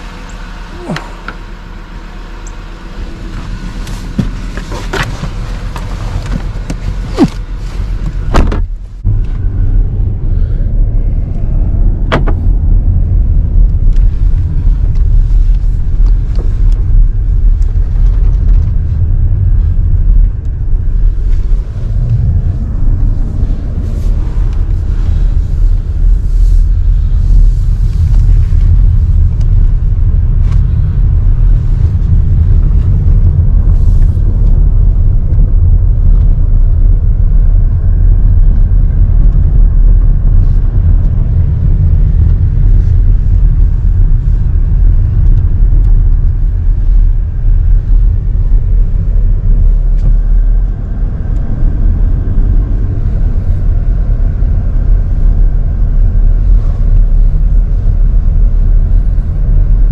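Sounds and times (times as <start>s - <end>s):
wind buffeting microphone: 2.6s - 59.9s.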